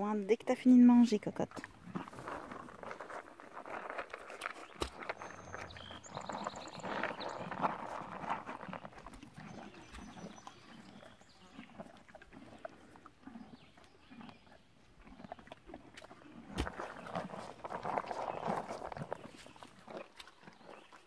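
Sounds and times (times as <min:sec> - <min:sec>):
horse chewing feed pellets: 0:00.1 - 0:21.0.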